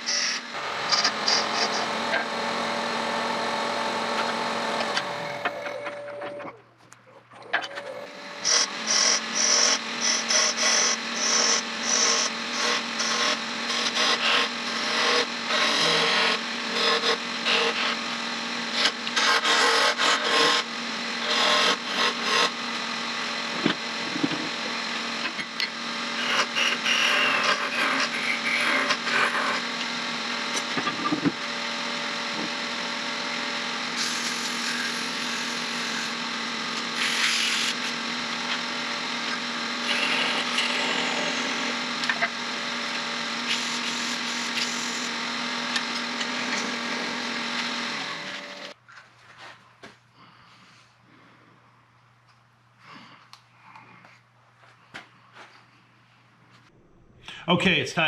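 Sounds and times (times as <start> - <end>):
wood lathe humming: 0.0 - 6.4, 7.7 - 48.8
tool scraping spinning wood: 0.0 - 6.6, 7.5 - 49.6.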